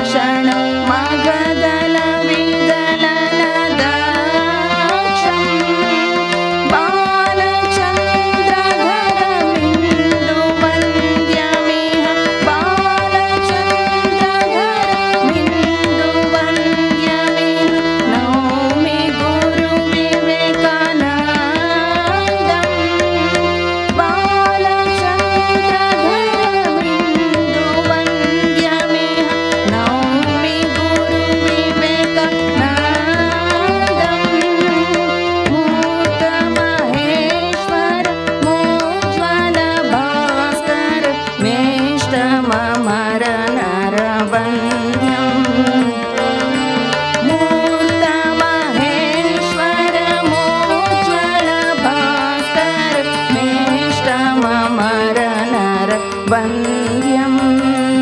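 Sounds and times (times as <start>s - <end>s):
harmonium melody: 0.0s - 58.0s
tabla drumming: 0.0s - 58.0s.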